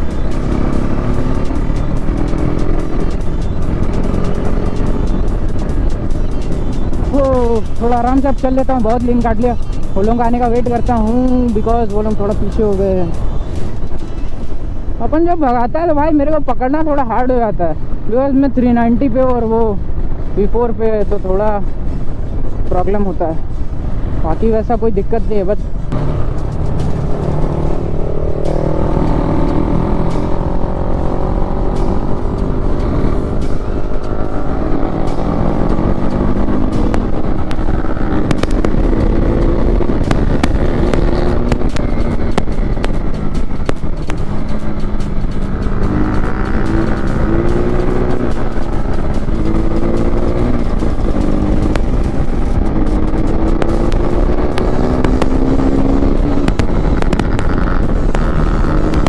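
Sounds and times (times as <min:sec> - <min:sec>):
motorcycle engine revving: 0:00.0 - 0:15.0, 0:25.7 - 0:59.0
wind and road noise: 0:00.0 - 0:59.0.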